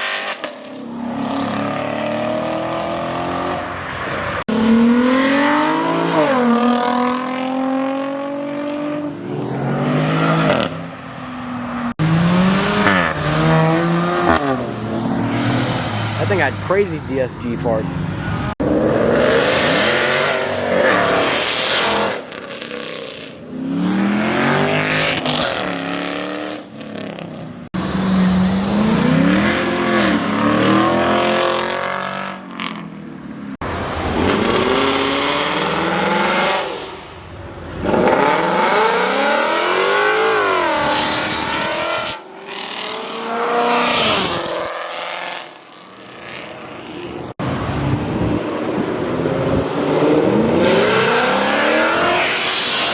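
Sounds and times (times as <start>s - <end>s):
car engines revving and accelerating: 0.0s - 52.9s.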